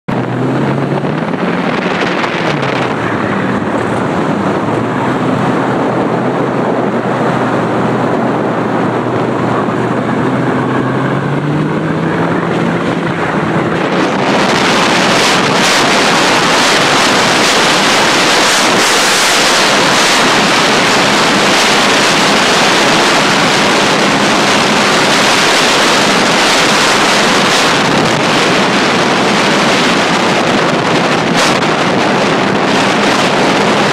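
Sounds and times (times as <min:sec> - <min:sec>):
personal watercraft engine: 0:00.1 - 0:33.9
wind on the microphone: 0:00.1 - 0:33.9.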